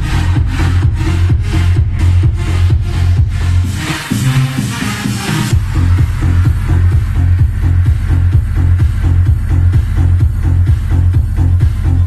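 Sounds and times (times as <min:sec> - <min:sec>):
electronic dance music with heavy bass: 0:00.0 - 0:12.0.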